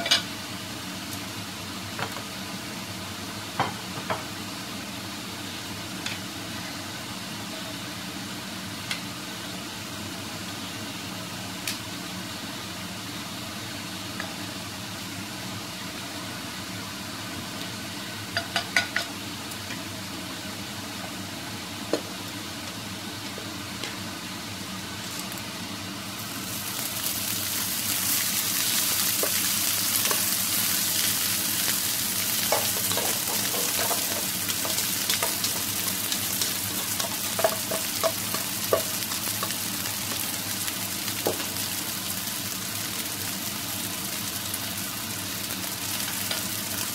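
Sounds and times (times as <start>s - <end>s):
oil sizzling in a frying pan: 0.0s - 46.9s
rice sizzling in hot oil: 0.0s - 46.9s.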